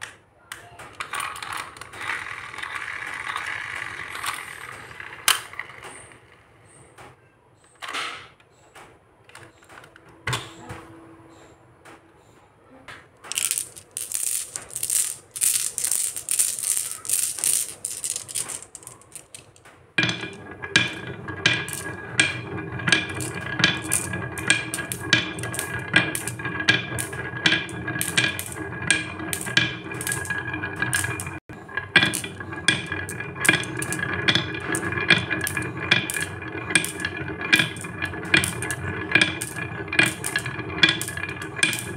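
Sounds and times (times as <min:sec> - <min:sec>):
marbles clicking on wooden track: 0:00.6 - 0:06.4, 0:13.2 - 0:41.9.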